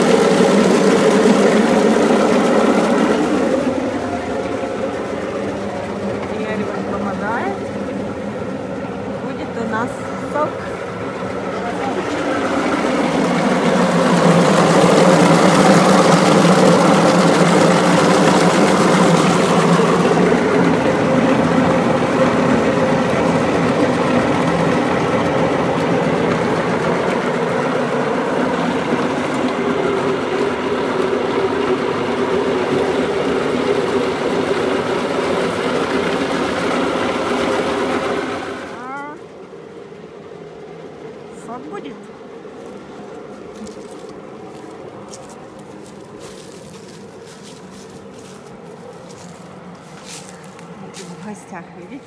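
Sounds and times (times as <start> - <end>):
feed chopper grinding apples: 0.0 - 52.0.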